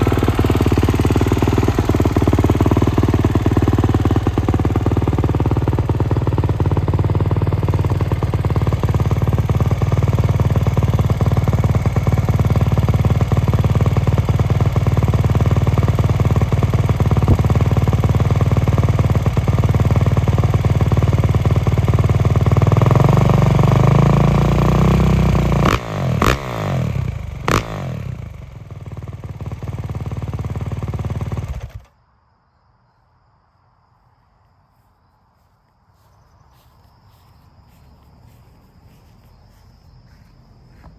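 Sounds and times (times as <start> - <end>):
motorcycle engine idling and revving: 0.0 - 32.0, 35.4 - 40.9.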